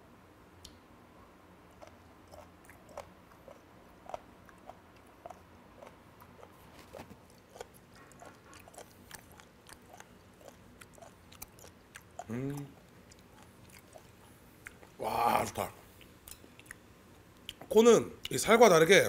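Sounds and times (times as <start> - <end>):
person chewing crunchy food: 1.7 - 17.7.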